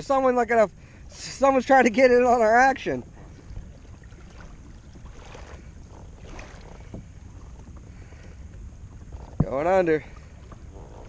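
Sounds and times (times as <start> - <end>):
water lapping against hull: 0.0 - 11.0
wind rumble on microphone: 0.0 - 11.0.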